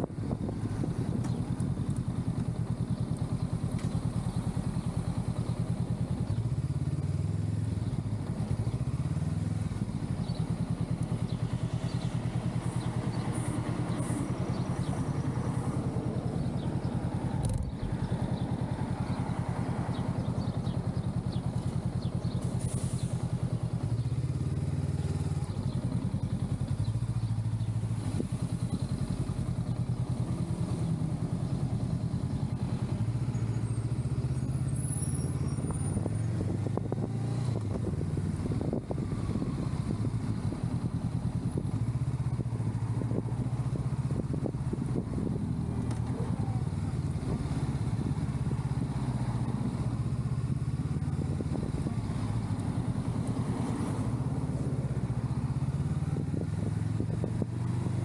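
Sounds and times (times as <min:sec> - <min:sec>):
motorcycle engine at low speed: 0:00.0 - 0:58.0.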